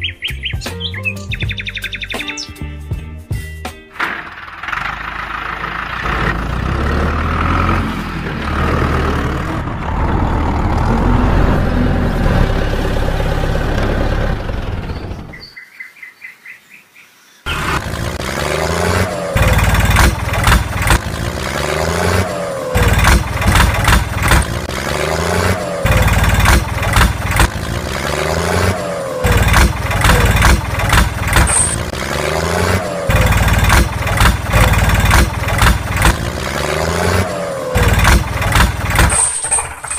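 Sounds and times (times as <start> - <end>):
engine running: 4.0 - 15.4, 17.5 - 39.9.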